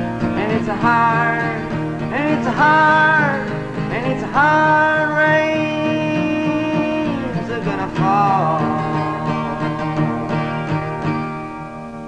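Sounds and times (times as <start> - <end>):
man singing: 0.0 - 10.8
acoustic guitar strumming: 0.0 - 12.0.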